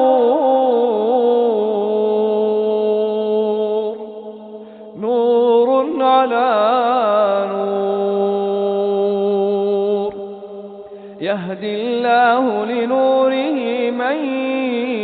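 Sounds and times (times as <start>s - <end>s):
man chanting melodically: 0.0s - 10.6s, 11.2s - 15.0s.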